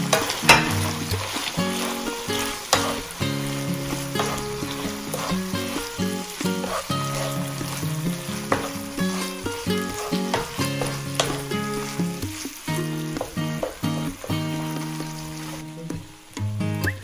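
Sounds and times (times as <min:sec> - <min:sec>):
wooden spatula stirring: 0:00.0 - 0:15.8
background music of held notes: 0:00.0 - 0:17.0
food sizzling in a frying pan: 0:00.0 - 0:17.0.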